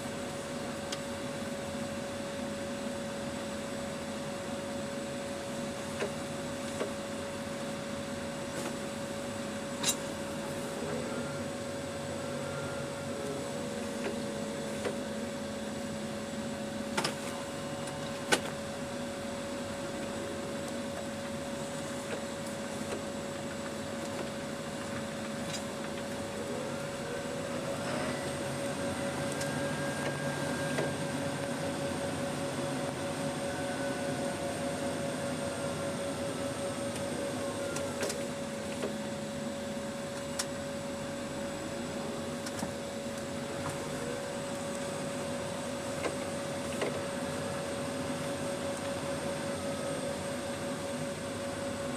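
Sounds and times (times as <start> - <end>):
constant whine: 0.0 - 51.9.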